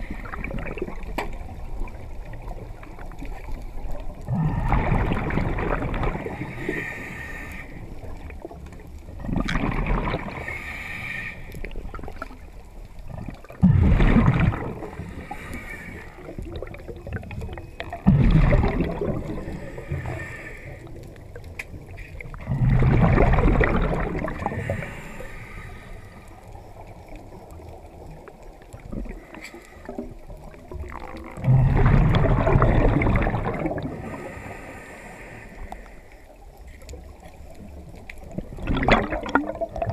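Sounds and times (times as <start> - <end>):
exhaled bubbles gurgling underwater: 0.0 - 39.9
hissing and water noise: 0.0 - 39.9.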